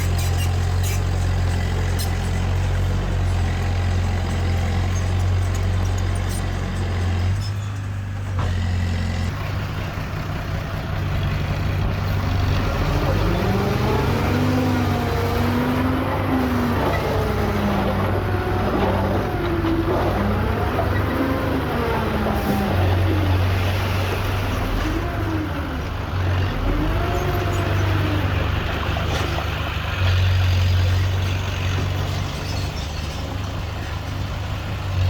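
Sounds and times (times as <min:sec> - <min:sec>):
heavy diesel machinery engine: 0:00.0 - 0:35.0.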